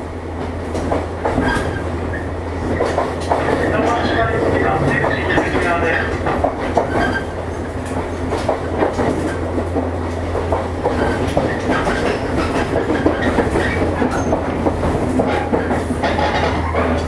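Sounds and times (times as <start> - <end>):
train wheels clattering on rails: 0.0 - 17.0.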